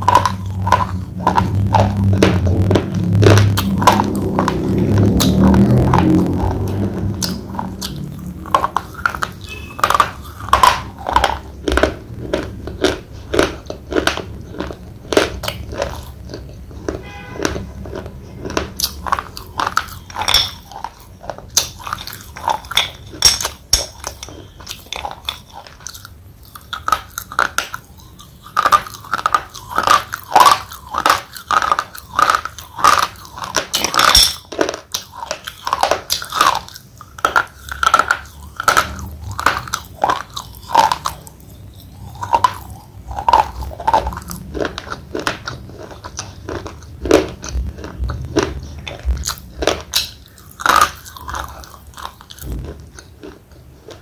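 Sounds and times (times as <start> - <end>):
slate pencil crunching between teeth: 0.0 - 54.0.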